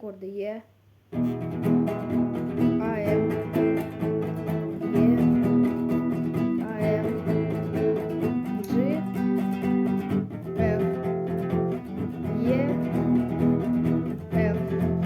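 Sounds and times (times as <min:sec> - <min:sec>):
acoustic guitar strumming: 0:01.1 - 0:15.0.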